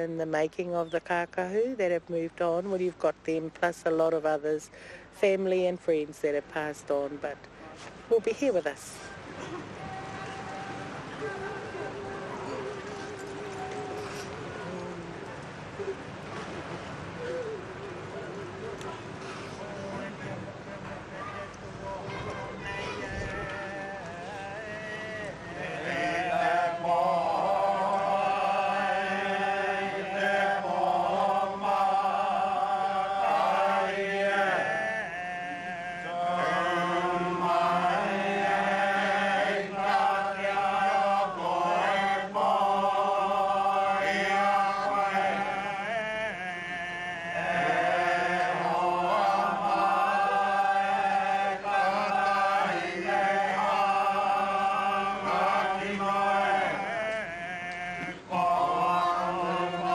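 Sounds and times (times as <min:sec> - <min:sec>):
voices chanting: 0:08.1 - 0:59.9.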